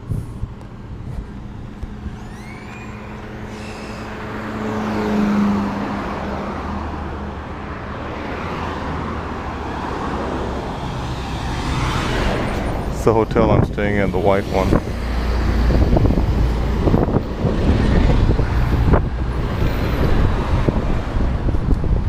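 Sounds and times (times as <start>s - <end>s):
motor vehicle passing close: 0.0s - 21.8s
traffic noise: 0.0s - 22.0s.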